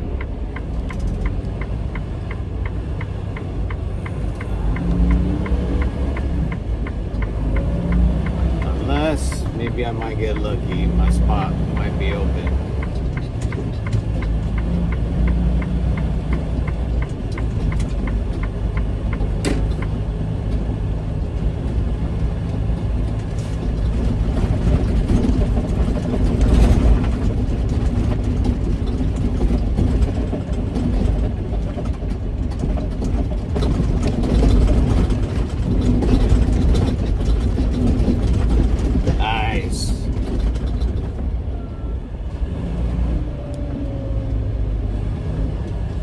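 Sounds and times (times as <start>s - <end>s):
truck diesel engine rumbling: 0.0s - 46.0s.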